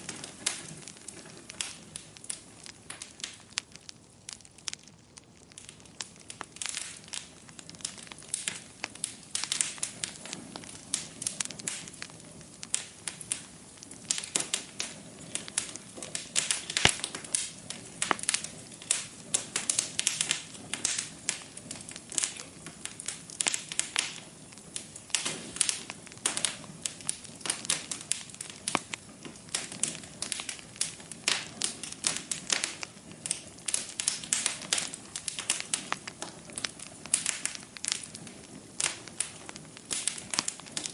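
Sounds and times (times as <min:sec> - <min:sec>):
low steady hiss: 0:00.0 - 0:40.9
wood fire crackling and popping: 0:00.0 - 0:40.9.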